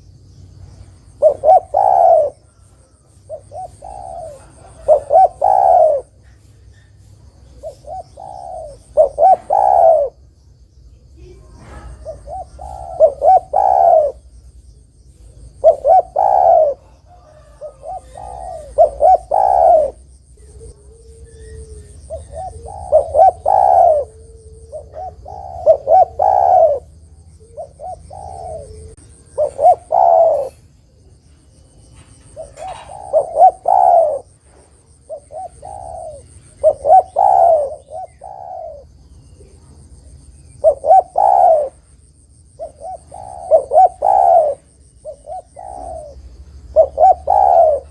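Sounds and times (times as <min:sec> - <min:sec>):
dove cooing: 0:01.0 - 0:10.2, 0:11.1 - 0:47.9.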